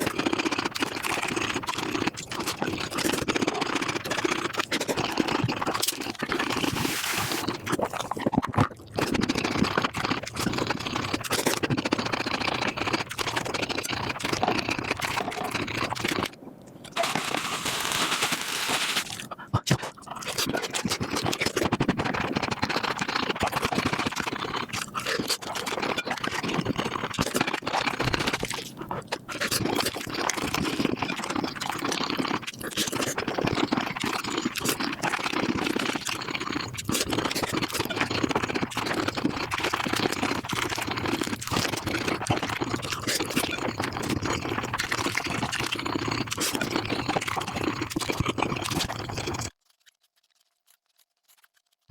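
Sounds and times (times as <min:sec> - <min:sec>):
chewing and crunching: 0:00.0 - 0:51.9.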